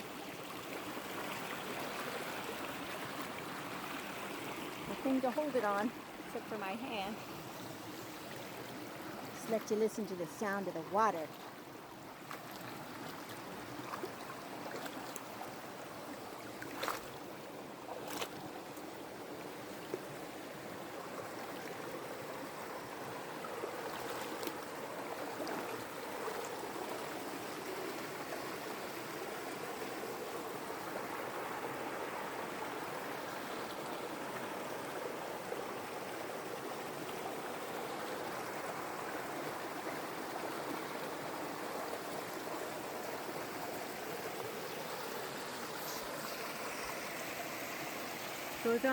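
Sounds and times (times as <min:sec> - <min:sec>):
creek running over rocks: 0:00.0 - 0:48.9.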